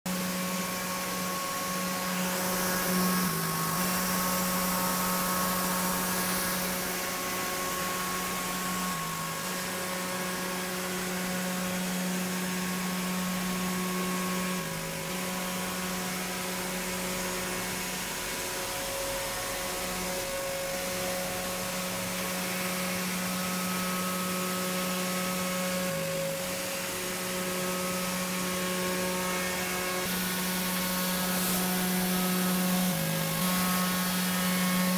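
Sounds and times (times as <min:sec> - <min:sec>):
machine motor hum: 0:00.1 - 0:34.9.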